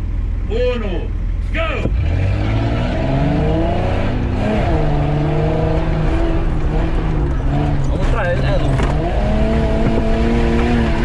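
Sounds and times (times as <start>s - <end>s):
car engine revving hard: 1.8s - 11.0s.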